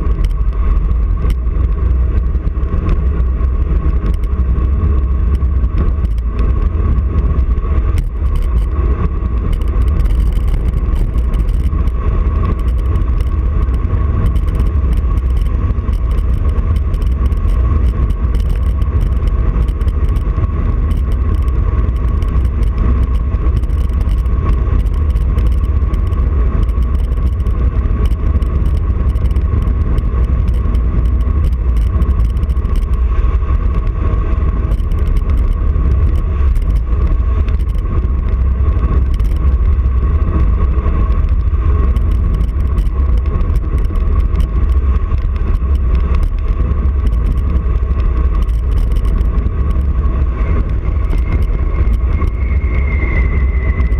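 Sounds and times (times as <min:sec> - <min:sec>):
thin steady whine: 0:00.0 - 0:53.9
wind rushing over microphone: 0:00.0 - 0:53.9.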